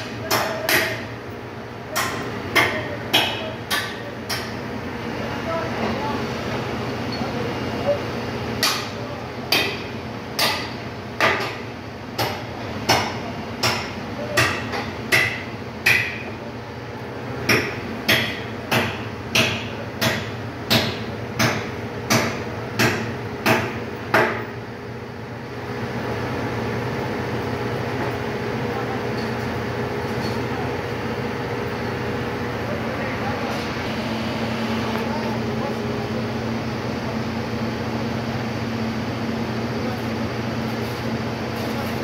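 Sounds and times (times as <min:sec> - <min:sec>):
steady machine hum: 0:00.0 - 0:42.0.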